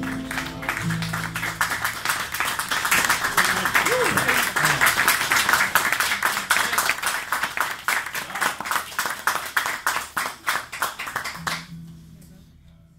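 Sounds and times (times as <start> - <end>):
audience clapping: 0.0 - 11.7.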